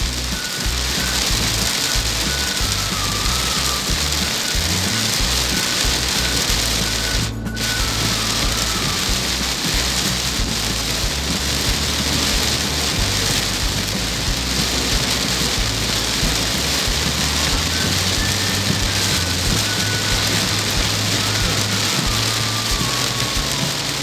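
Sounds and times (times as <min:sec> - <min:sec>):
heavy rain on a car: 0:00.0 - 0:24.0.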